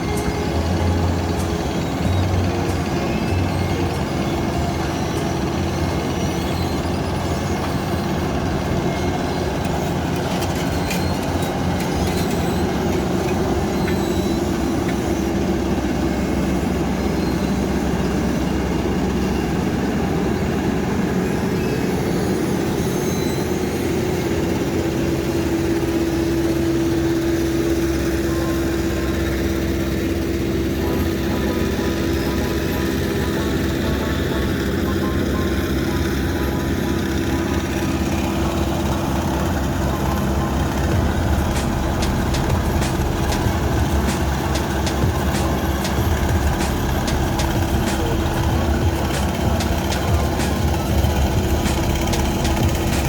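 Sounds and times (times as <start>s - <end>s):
diesel paving machinery engine drone: 0.0s - 53.0s.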